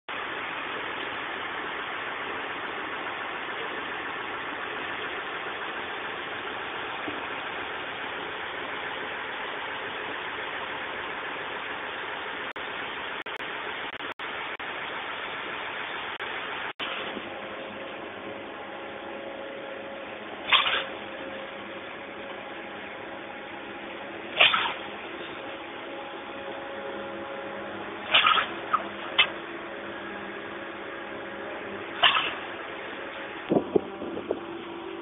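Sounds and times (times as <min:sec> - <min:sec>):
concrete pump truck running: 0:00.1 - 0:35.0.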